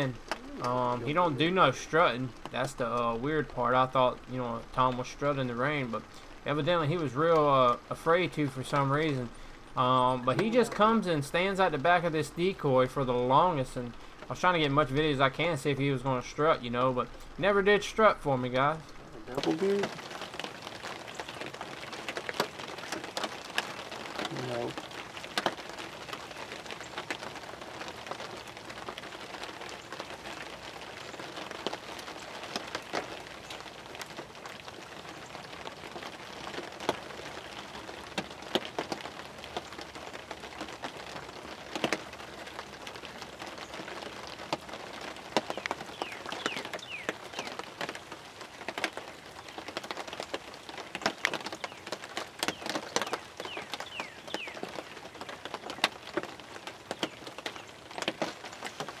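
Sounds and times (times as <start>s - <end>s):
rain hiss: 0.0s - 59.0s
sharp raindrop taps: 0.0s - 59.0s.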